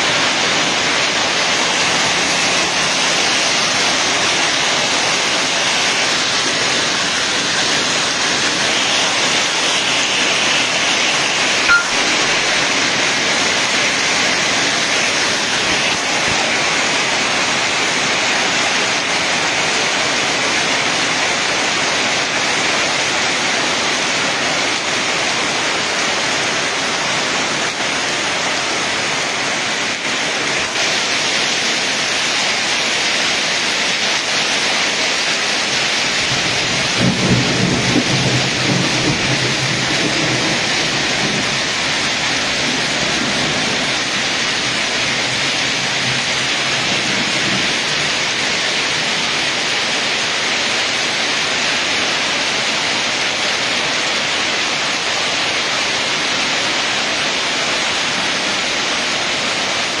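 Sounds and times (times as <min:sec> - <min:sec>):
heavy rain and hail: 0:00.0 - 1:00.0.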